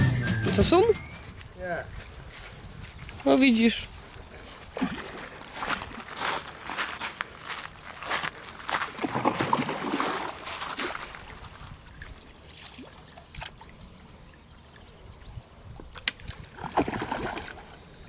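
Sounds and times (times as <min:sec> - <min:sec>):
water trickling and splashing: 0:01.4 - 0:18.0.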